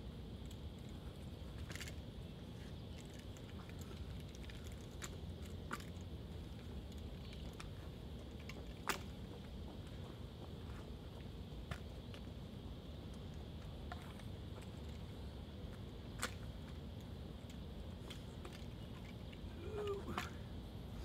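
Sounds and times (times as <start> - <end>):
steady outdoor hum: 0.0 - 21.0.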